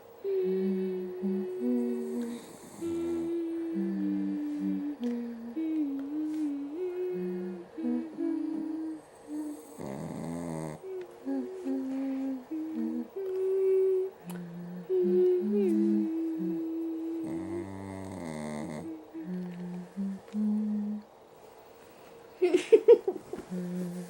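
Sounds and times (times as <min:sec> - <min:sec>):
two voices humming a lullaby: 0:00.0 - 0:24.0.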